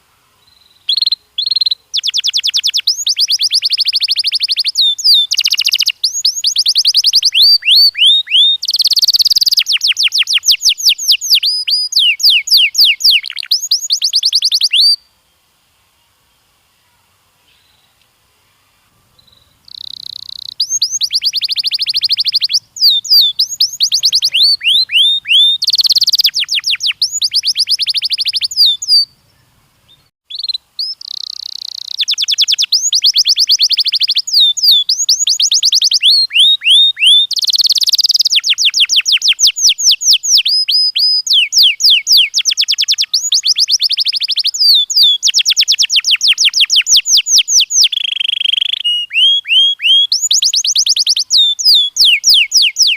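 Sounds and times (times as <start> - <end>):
canary singing trills: 0.0 - 15.1, 18.6 - 52.9.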